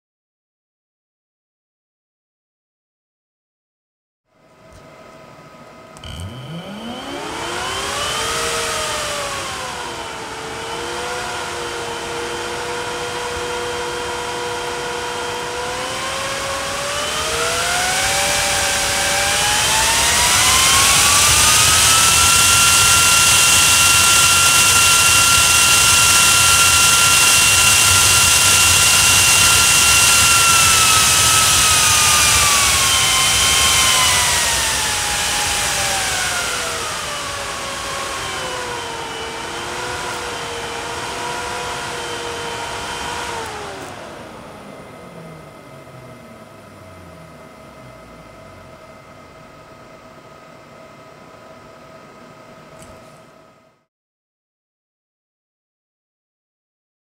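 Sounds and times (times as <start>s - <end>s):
fan whining: 4.4s - 53.7s.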